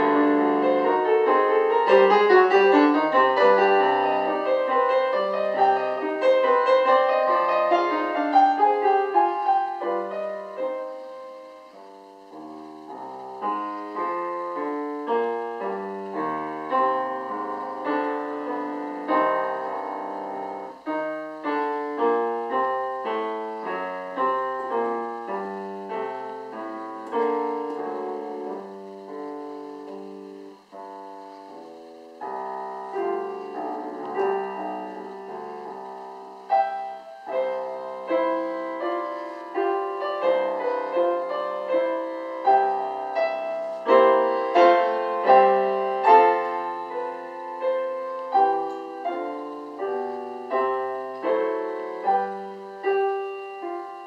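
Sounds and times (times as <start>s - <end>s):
solo piano classical piece: 0.0s - 54.0s.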